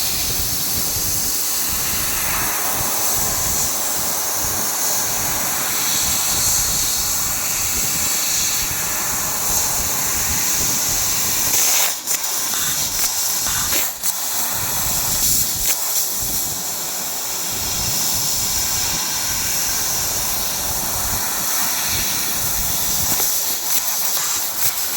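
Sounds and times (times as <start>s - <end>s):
laser cutter hissing: 0.0s - 24.9s.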